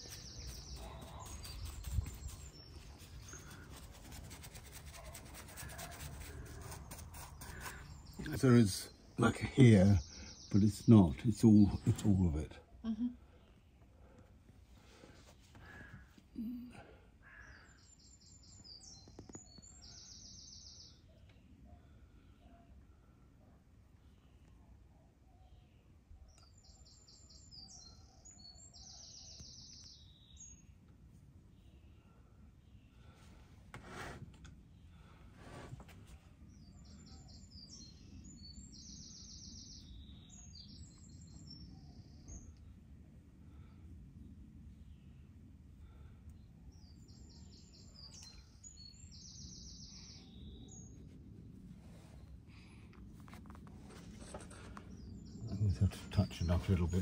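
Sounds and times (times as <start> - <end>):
songbird chirping and trilling: 0.0 - 13.9, 15.8 - 22.8, 25.2 - 33.1, 36.3 - 42.8, 44.8 - 57.0.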